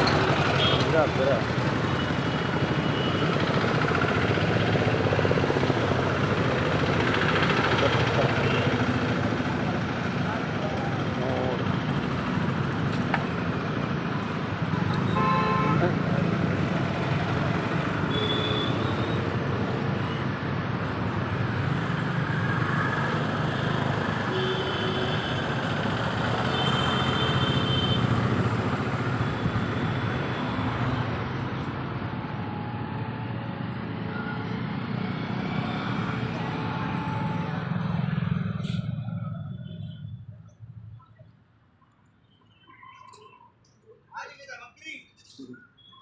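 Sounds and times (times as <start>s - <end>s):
road traffic noise: 0.0s - 46.0s.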